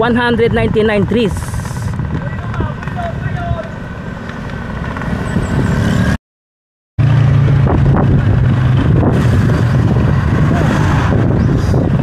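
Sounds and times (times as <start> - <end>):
road and traffic noise: 0.0 - 6.2, 7.0 - 12.0
vehicle engine running: 0.0 - 6.2, 7.0 - 12.0.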